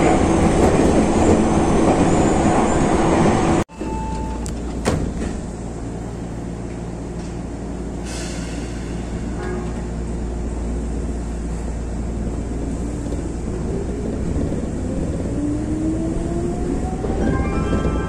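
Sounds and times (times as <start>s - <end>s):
electric train low rumble: 0.0s - 18.0s.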